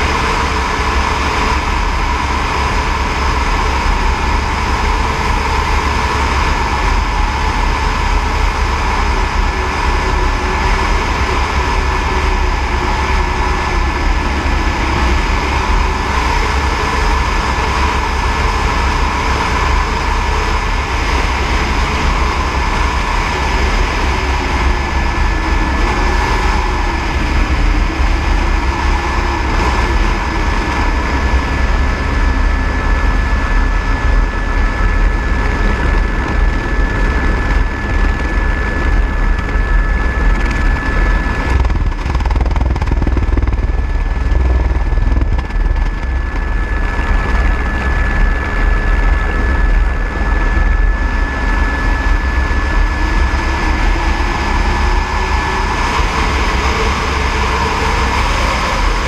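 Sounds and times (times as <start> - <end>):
helicopter in flight: 0.0 - 59.0.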